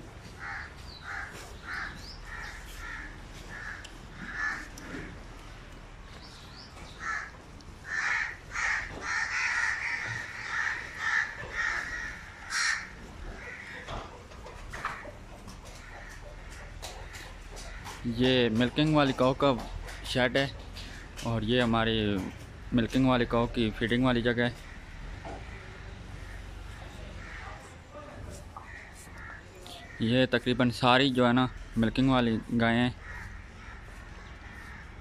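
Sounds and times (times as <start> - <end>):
birds calling: 0.0 - 35.0.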